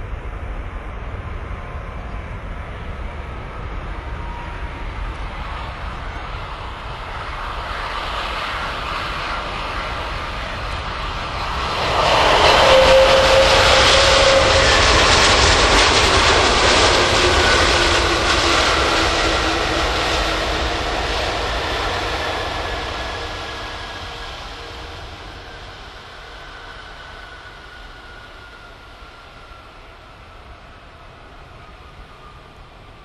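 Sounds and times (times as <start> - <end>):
jet airliner engines passing: 0.0 - 33.0.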